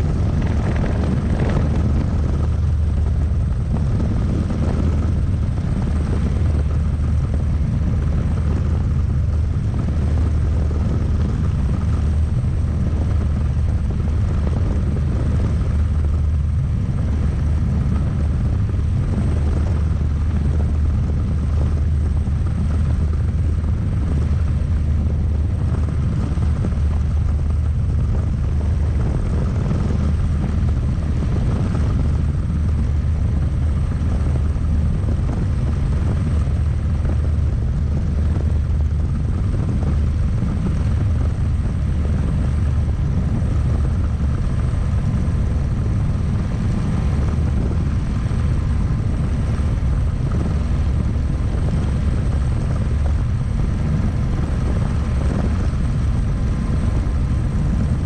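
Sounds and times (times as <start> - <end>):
helicopter rotor drone: 0.0 - 58.0
high turbine whine: 0.0 - 58.0.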